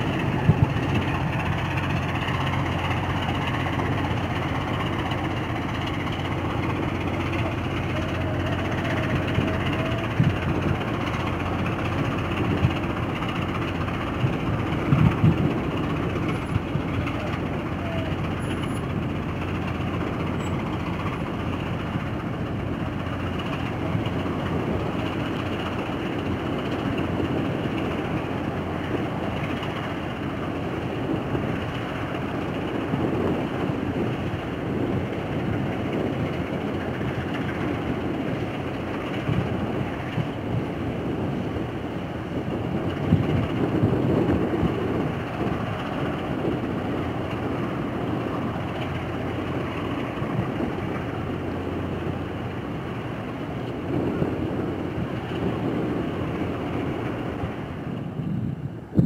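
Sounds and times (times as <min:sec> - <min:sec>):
boat diesel engine rumbling: 0:00.0 - 0:59.0.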